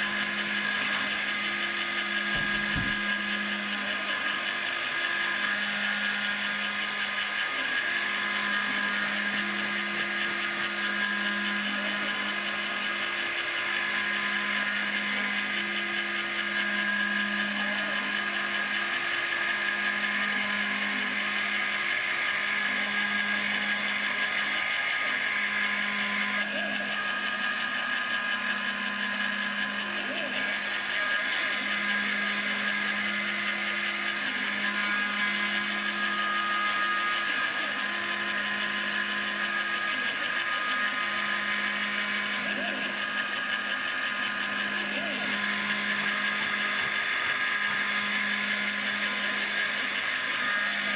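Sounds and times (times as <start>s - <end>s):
high spindle whine: 0.0s - 50.9s
low motor hum: 0.0s - 50.9s.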